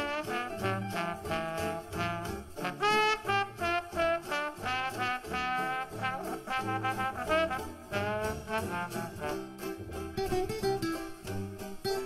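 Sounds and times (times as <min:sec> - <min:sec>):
lively brass-led music: 0:00.0 - 0:12.0.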